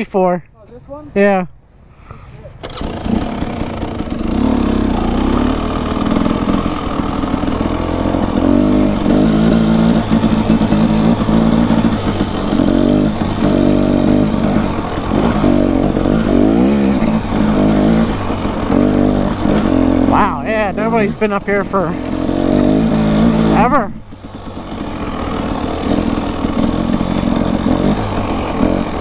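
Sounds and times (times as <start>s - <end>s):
dirt bike engine revving: 2.6s - 29.0s.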